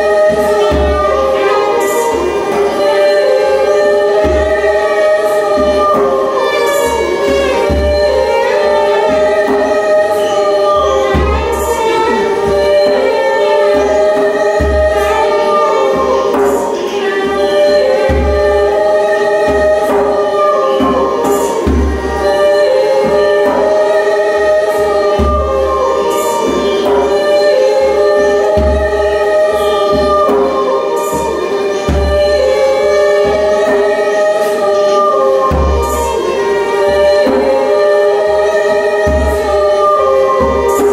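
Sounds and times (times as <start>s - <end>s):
layered sustained singing voices: 0.0s - 40.9s.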